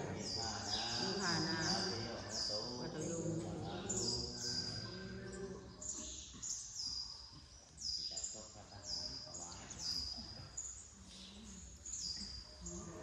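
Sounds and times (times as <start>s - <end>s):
faint voices murmuring: 0.0s - 13.0s
small birds chirping: 0.0s - 13.0s.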